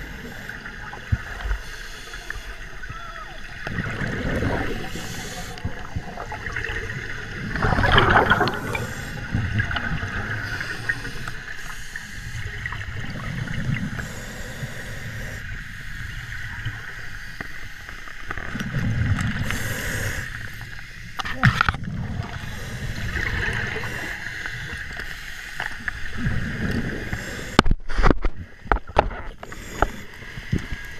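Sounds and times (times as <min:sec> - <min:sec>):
underwater air bubbling: 0:00.0 - 0:30.9.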